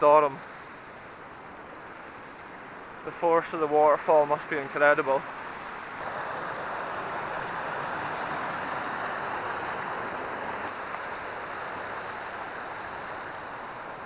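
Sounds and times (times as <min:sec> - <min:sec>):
small waterfall splashing: 0:00.0 - 0:14.0.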